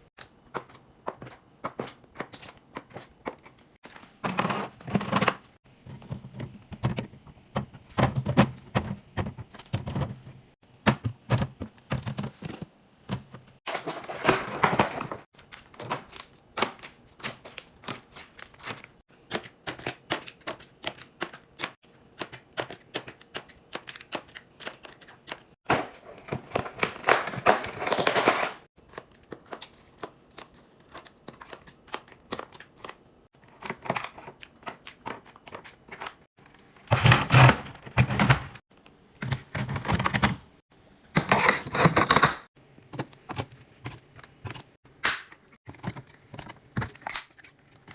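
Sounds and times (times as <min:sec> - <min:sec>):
plastic containers clicking and knocking: 0:00.2 - 0:16.9, 0:18.6 - 0:40.5, 0:41.1 - 0:47.9.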